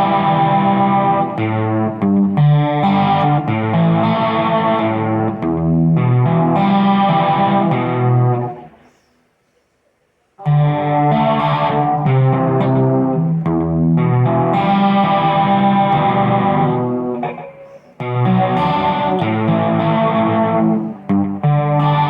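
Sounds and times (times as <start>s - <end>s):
electric guitar music: 0.0s - 8.8s, 10.4s - 22.0s.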